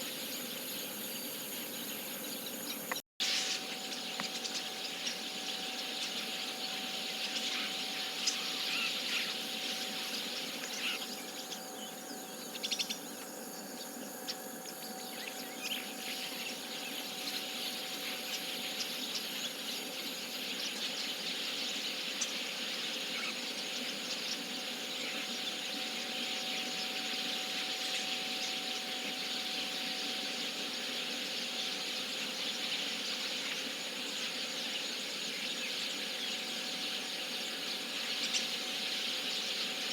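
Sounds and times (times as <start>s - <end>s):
starlings chattering: 0.0s - 39.9s.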